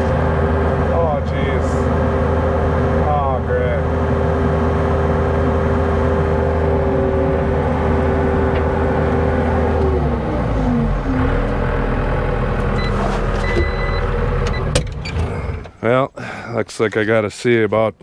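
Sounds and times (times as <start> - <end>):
skid steer engine whining: 0.0 - 15.9.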